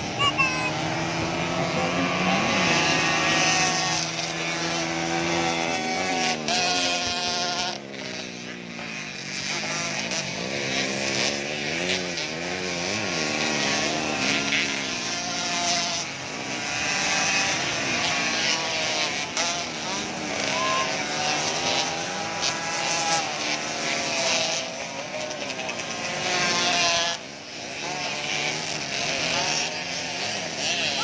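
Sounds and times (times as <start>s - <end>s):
motocross bike engines revving: 0.0s - 31.0s.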